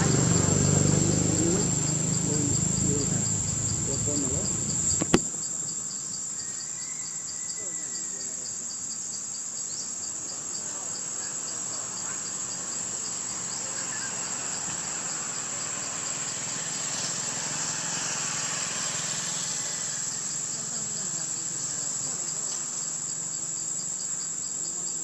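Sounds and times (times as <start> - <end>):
insects chirring drone: 0.0 - 25.0
pulsing insect chirp: 0.0 - 25.0.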